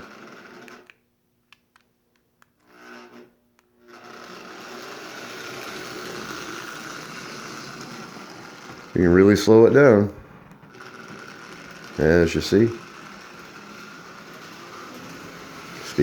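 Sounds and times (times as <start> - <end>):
toy train motor and wheels running: 0.0 - 1.0, 2.6 - 16.0.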